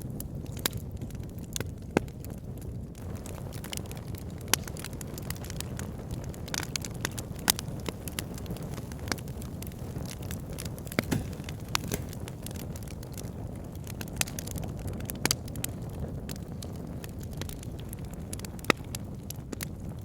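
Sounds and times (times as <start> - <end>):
low rumble of fire: 0.0 - 20.0
wood fire crackling and popping: 0.0 - 20.0.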